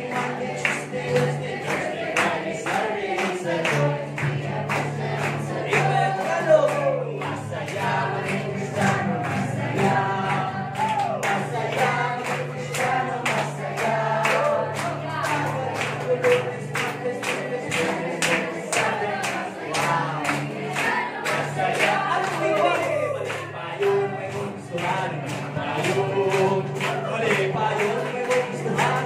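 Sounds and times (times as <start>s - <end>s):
crowd singing: 0.0s - 29.0s
hands clapping: 0.0s - 29.0s.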